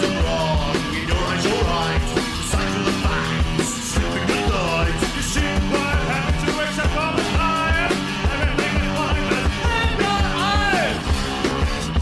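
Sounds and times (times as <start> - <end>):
rock music with drum beat: 0.0 - 12.0.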